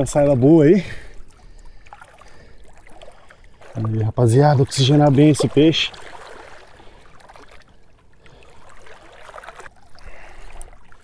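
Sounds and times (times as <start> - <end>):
shallow water trickling and sloshing: 0.0 - 11.0.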